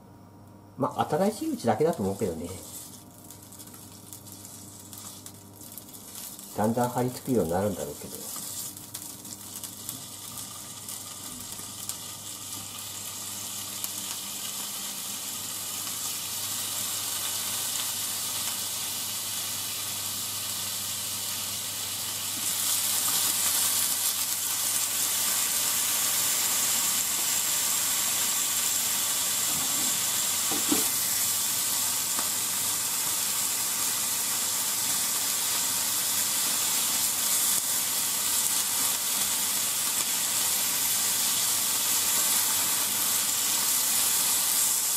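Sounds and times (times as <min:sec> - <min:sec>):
pork sizzling in a frying pan: 0:00.3 - 0:44.9.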